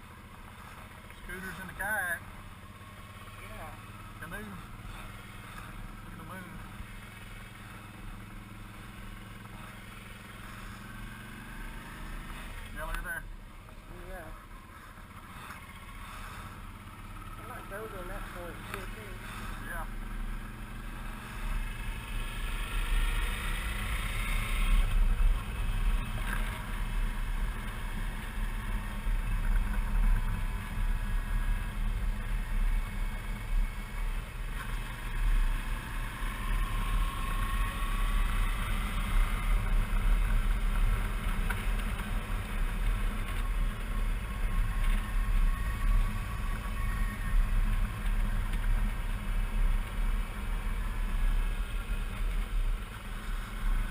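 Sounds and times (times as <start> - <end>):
motorcycle engine rumbling: 0.0 - 53.9
wind and road noise: 0.0 - 53.9.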